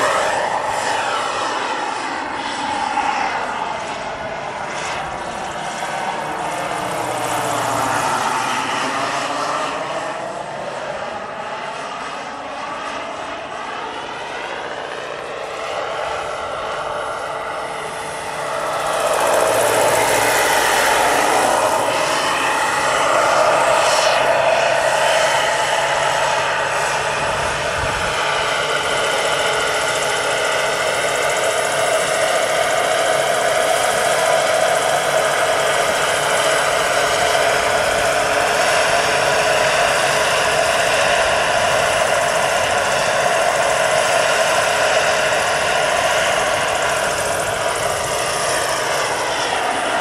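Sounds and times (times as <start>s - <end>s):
model helicopter turbine whine: 0.0s - 50.0s.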